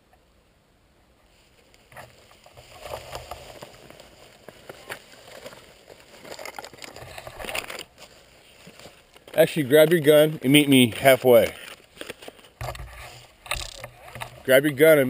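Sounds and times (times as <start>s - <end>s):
rustling and scraping: 1.2s - 15.0s.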